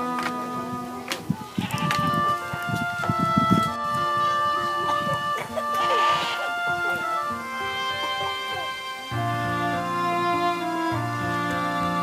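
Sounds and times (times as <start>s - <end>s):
background music with held notes: 0.0s - 12.0s
low bass note: 1.8s - 12.0s.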